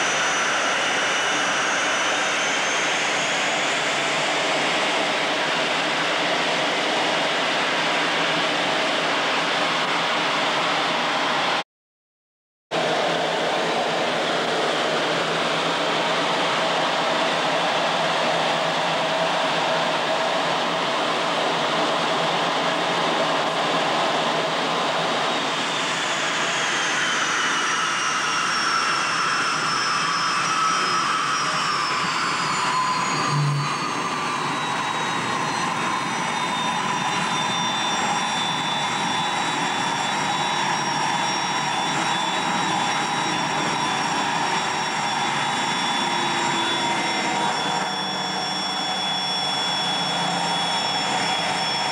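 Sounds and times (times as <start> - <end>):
jet engine roaring and whining: 0.0 - 11.6, 12.7 - 51.9.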